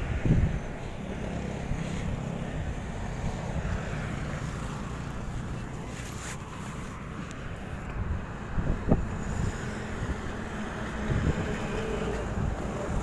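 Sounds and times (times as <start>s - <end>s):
wind buffeting microphone: 0.0s - 5.5s, 6.5s - 13.0s.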